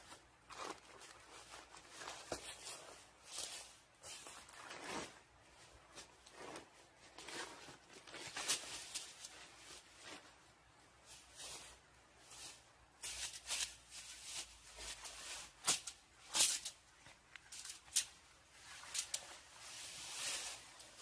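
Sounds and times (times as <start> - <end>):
rustling and handling noises: 0.0 - 21.0.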